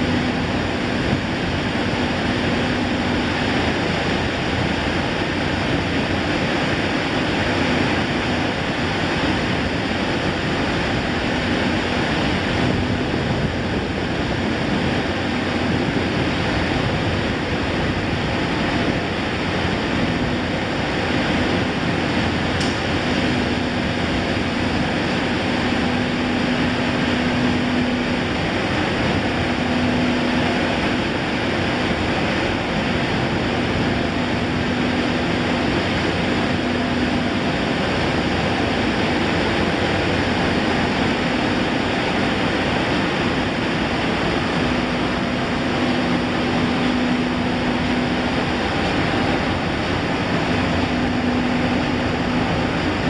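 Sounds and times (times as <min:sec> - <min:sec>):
low hum: 0:00.0 - 0:53.0
roar of air and machinery: 0:00.0 - 0:53.0.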